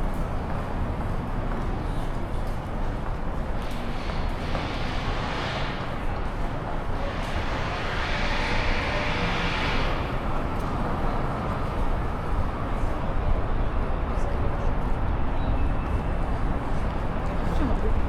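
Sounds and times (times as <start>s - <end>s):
city street traffic noise: 0.0s - 18.0s
vehicle passing with tyre noise: 0.0s - 18.0s.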